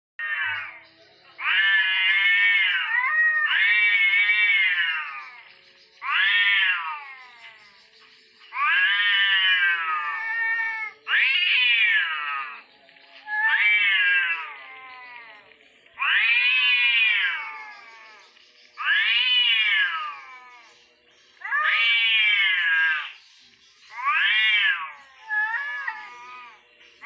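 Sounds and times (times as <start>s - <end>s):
cats yowling: 0.2s - 0.8s, 1.4s - 7.7s, 8.5s - 20.8s, 21.4s - 23.2s, 23.9s - 27.0s.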